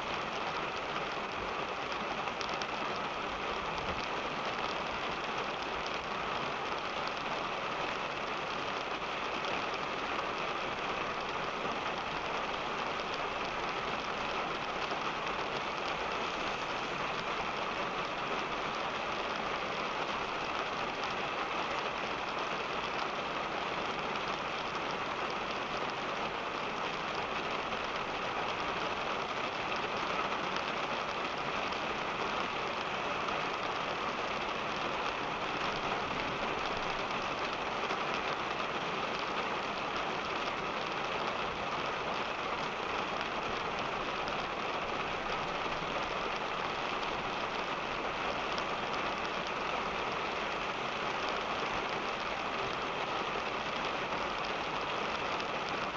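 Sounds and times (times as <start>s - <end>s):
low road noise: 0.0s - 55.9s
rain pattering on car roof: 0.0s - 55.9s.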